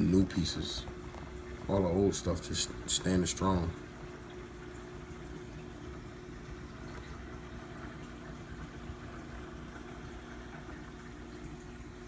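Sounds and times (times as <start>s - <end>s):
aquarium pumps humming: 0.0s - 12.0s
circulating water rushing: 0.0s - 12.0s.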